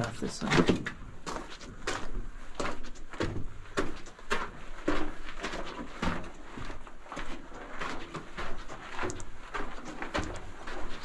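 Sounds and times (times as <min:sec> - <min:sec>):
footsteps on gravel: 0:00.0 - 0:11.0.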